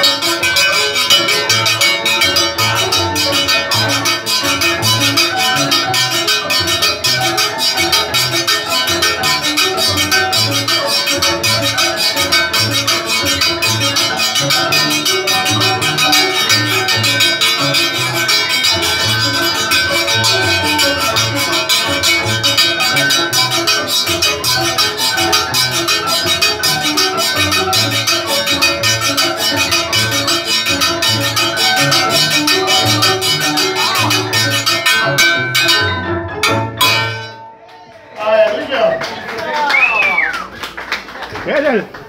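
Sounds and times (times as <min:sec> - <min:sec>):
hand percussion rattling: 0:00.0 - 0:39.1
barrel piano playing lively tune: 0:00.0 - 0:40.9.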